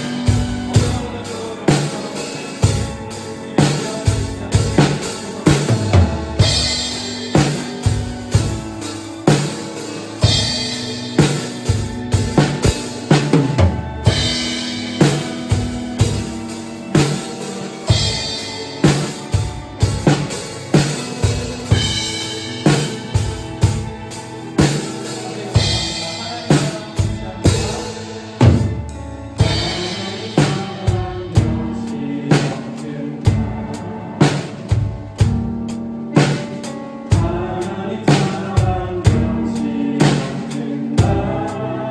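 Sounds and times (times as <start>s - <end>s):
drum kit playing: 0.0s - 41.9s
recorded worship song: 0.0s - 41.9s.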